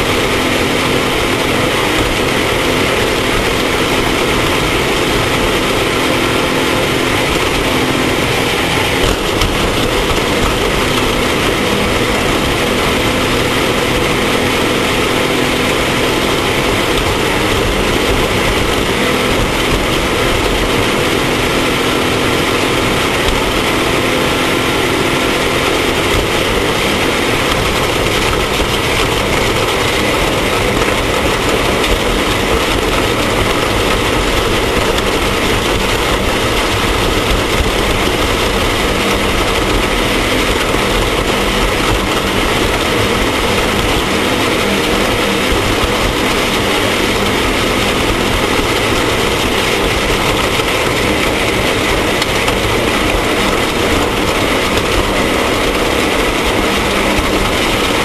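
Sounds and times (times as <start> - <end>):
loud rushing noise: 0.0 - 58.0
vehicle engine running at speed: 0.0 - 58.0.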